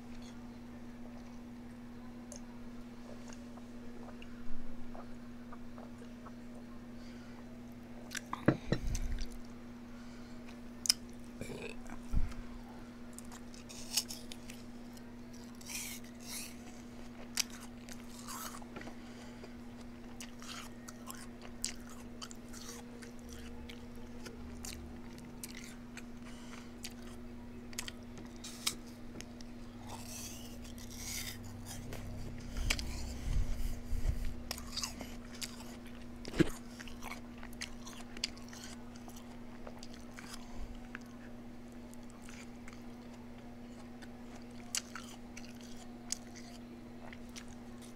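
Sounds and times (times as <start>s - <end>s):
steady low hum: 0.0s - 47.9s
person chewing food: 3.1s - 6.7s, 7.4s - 9.6s, 13.1s - 47.9s.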